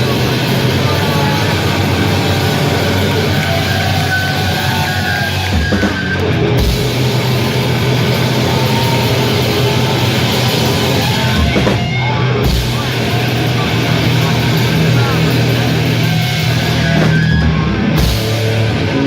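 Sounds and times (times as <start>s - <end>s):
distorted guitars and bass: 0.0s - 19.0s
drums: 0.0s - 19.0s.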